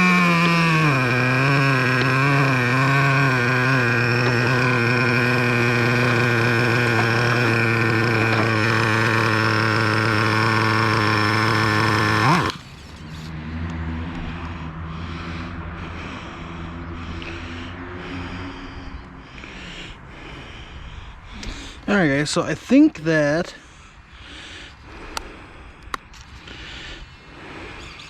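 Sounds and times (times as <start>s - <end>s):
nitro engine idling: 0.0s - 28.0s.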